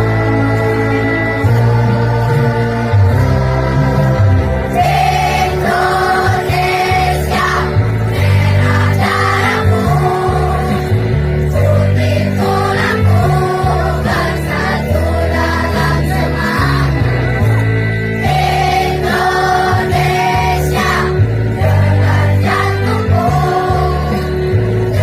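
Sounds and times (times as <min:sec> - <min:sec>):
choir singing: 0:00.0 - 0:17.2, 0:18.2 - 0:25.0
electric keyboard bass chords: 0:00.0 - 0:25.0.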